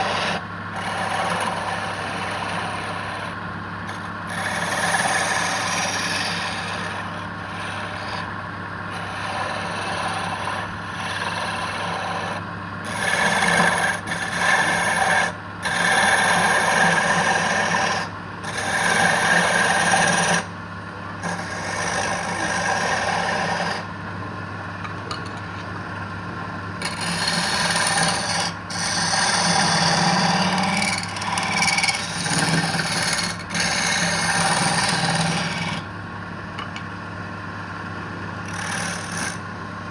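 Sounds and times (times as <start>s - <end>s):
wood scraping on lathe: 0.0s - 20.5s, 21.2s - 23.9s, 26.8s - 35.9s, 38.4s - 39.5s
lathe motor hum: 0.0s - 39.9s.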